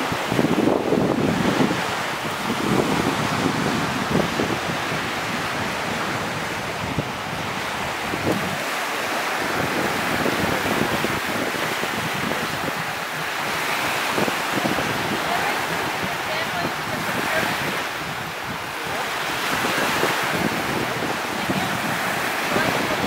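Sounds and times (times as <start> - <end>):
small waves breaking on beach: 0.0 - 23.0
wind buffeting microphone: 0.0 - 23.0.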